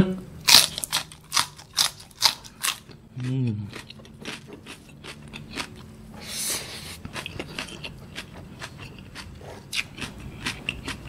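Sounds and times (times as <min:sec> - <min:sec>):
chewing with wet crunches: 0:00.5 - 0:06.1, 0:06.8 - 0:11.0.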